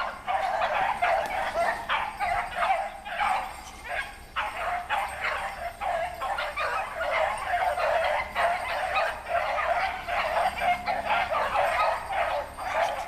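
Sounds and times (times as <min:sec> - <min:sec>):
dogs barking: 0:00.0 - 0:13.0
hounds baying: 0:00.0 - 0:13.0.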